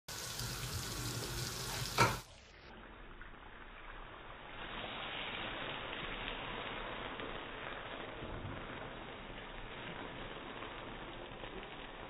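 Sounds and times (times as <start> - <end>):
hiss of pan and flames: 0.1 - 2.6, 3.5 - 12.0
fruit sizzling in a pan: 0.1 - 12.0.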